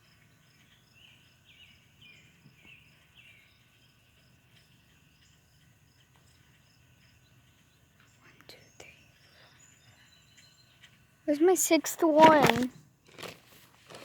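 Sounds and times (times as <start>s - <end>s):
insect chirping: 0.0s - 12.6s.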